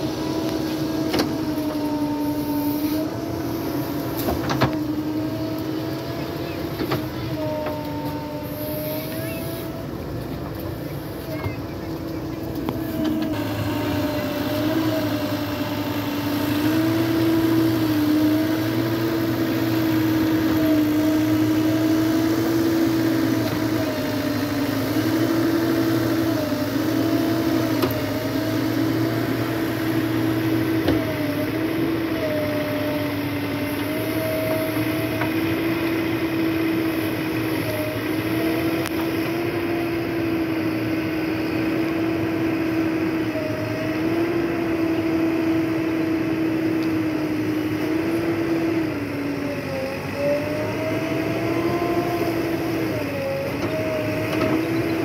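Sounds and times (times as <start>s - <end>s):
backhoe diesel engine and hydraulics: 0.0s - 55.0s.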